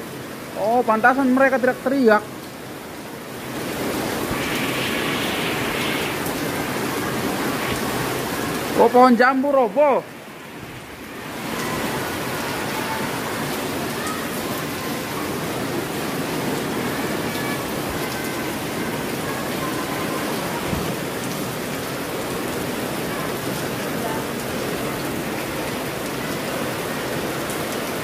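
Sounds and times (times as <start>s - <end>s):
heavy rain pouring: 0.0s - 28.0s
runoff streaming off roof: 1.6s - 9.2s, 9.9s - 28.0s.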